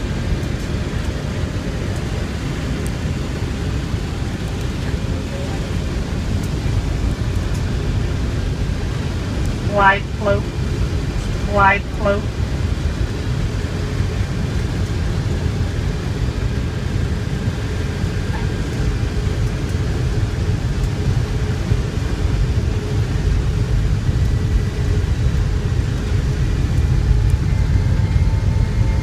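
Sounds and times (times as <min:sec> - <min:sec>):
low rumble of jet engines: 0:00.0 - 0:29.0.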